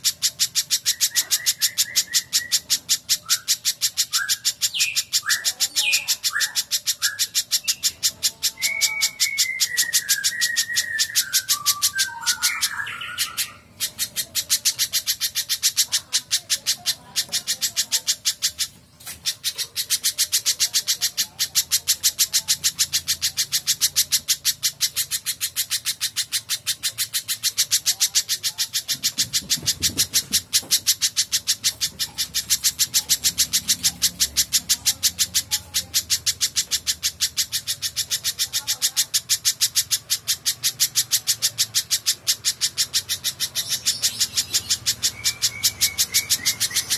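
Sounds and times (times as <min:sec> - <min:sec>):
bird calling sharp high chips: 0:00.0 - 0:46.9.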